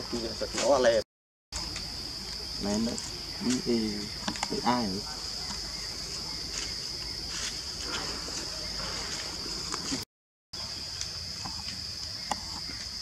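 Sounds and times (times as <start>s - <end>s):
insects droning: 0.0s - 10.0s, 10.6s - 13.0s.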